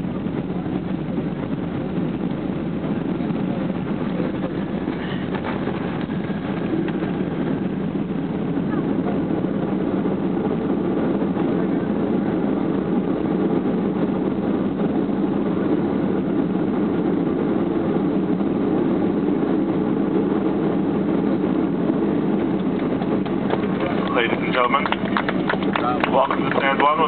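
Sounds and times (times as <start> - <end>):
airplane cabin engine noise: 0.0 - 27.0.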